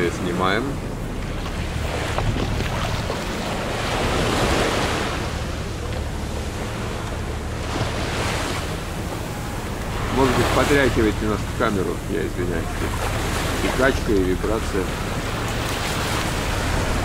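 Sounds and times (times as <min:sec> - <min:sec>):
boat engine low hum: 0:00.0 - 0:17.0
small waves washing onto beach: 0:00.0 - 0:17.0.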